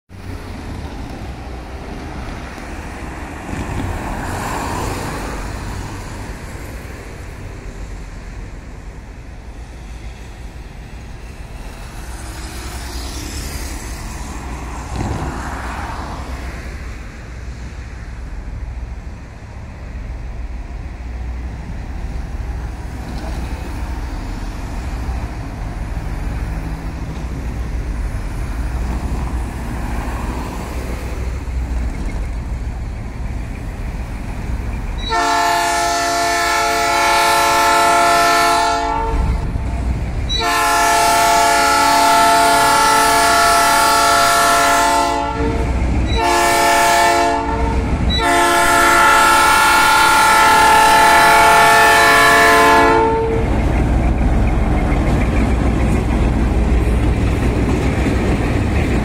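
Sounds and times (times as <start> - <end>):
cars passing: 0.1 - 59.0.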